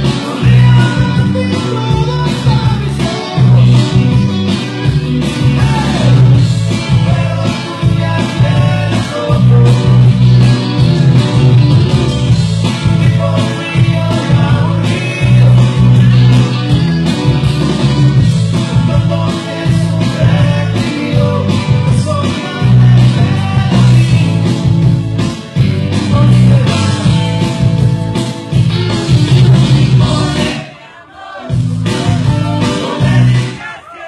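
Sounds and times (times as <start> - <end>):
loud dance music with heavy bass: 0.0 - 34.0.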